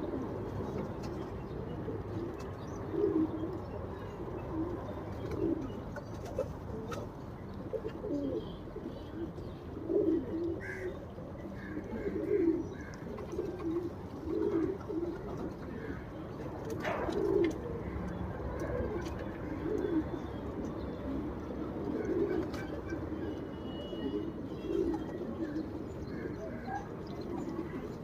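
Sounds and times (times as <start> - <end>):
pigeons cooing: 0.0 - 28.0.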